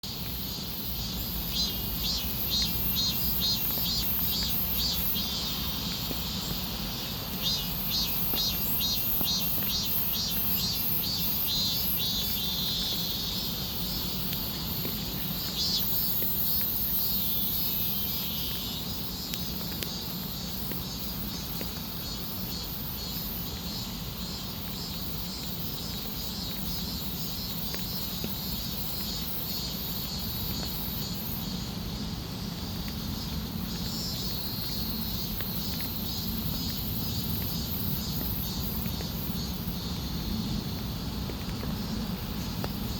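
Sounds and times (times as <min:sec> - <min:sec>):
insects chirping: 0:00.0 - 0:42.9.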